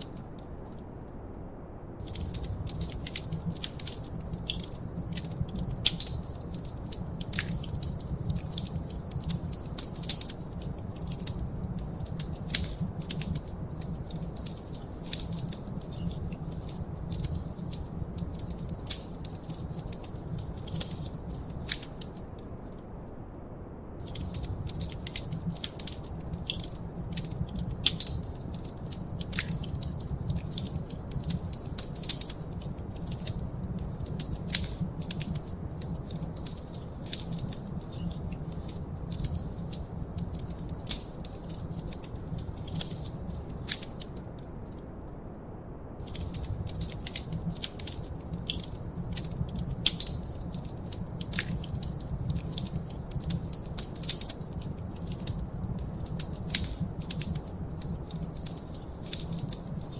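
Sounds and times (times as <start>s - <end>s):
wood fire crackling and popping: 0.0s - 1.2s, 2.0s - 22.8s, 24.0s - 44.9s, 46.0s - 59.9s
low rumble of flames: 0.0s - 59.9s.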